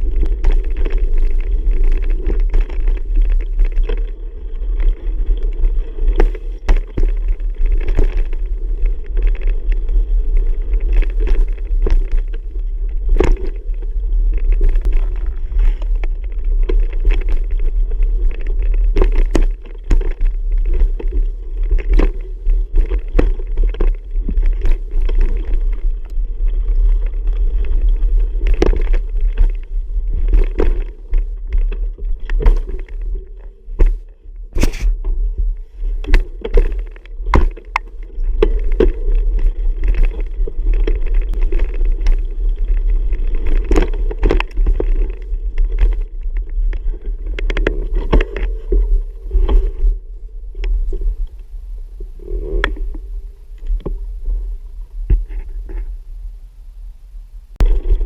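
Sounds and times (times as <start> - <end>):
bicycle knocks and rattles: 0.0 - 49.8
wind rumbling on microphone: 0.0 - 58.0.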